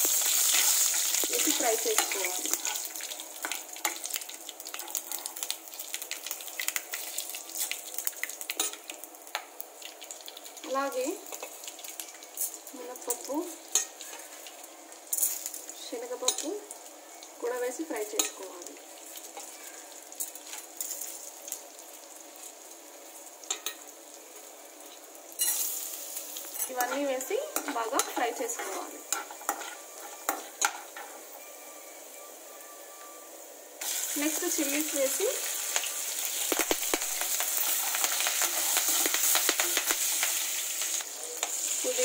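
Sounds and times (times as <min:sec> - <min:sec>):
spices sizzling in hot oil: 0:00.0 - 0:42.0.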